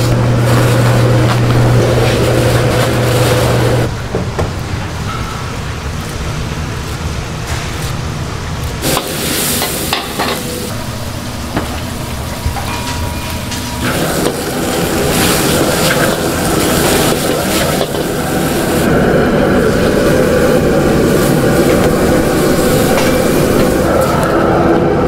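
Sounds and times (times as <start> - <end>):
gas burner rushing: 0.0 - 25.0.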